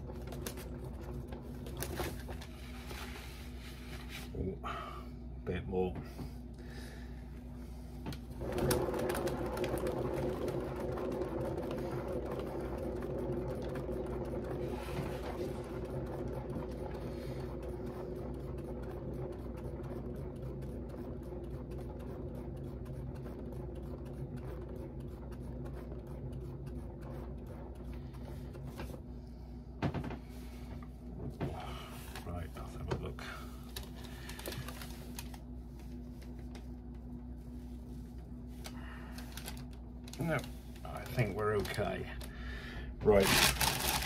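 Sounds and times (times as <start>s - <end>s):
paint spinner humming and ticking: 0.0s - 44.0s.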